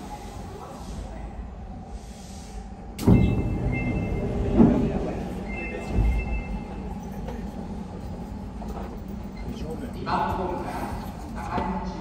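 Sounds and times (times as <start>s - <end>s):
subway car running noise and clatter: 0.0s - 12.0s.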